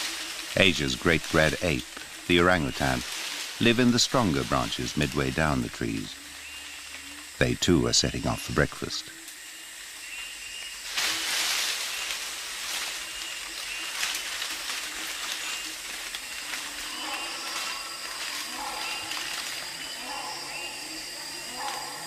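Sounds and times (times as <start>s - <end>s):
foliage rustling: 0.0s - 22.0s
insects buzzing: 0.0s - 22.0s.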